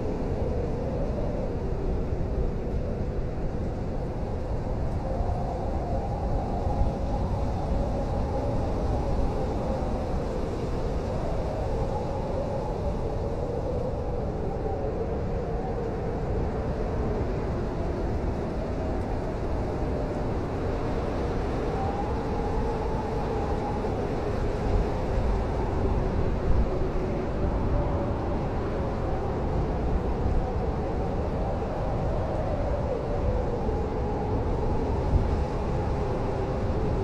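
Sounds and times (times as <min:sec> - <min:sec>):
blizzard wind whistling: 0:00.0 - 0:37.0.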